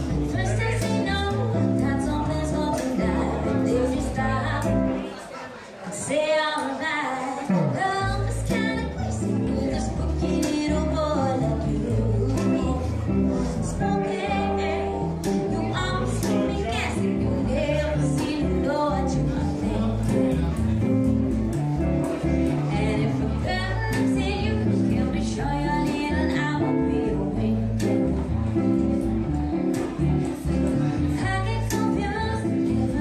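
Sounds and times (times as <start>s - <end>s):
double bass: 0.0s - 5.1s, 7.6s - 33.0s
electric guitar: 0.0s - 5.2s, 7.2s - 33.0s
woman singing into a microphone: 0.0s - 5.2s, 5.9s - 20.8s, 21.8s - 33.0s.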